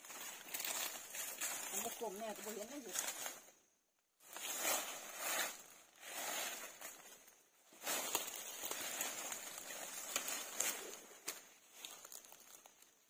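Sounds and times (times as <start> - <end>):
dry leaves rustling and crackling: 0.0 - 3.5, 4.2 - 13.0.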